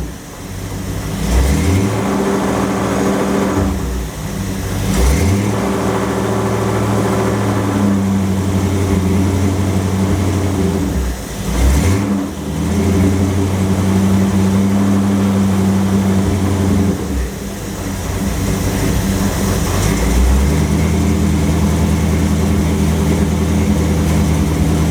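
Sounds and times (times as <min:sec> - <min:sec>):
car engine running under load: 0:00.0 - 0:24.9.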